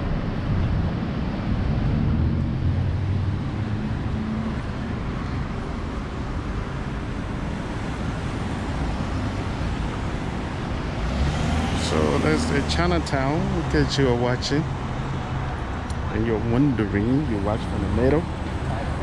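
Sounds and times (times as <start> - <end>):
cars driving past: 0.0 - 19.0
low engine hum: 0.0 - 19.0.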